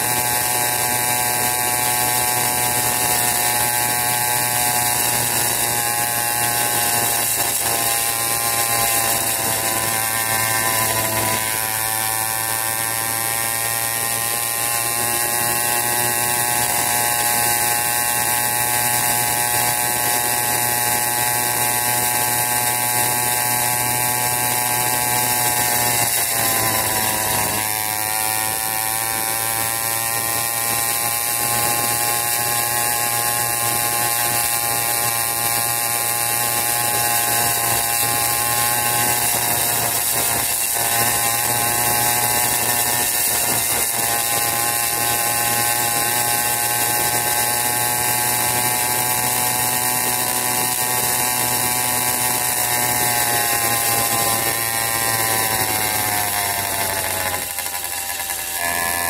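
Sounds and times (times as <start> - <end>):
two-stroke engine buzzing: 0.0 - 59.0.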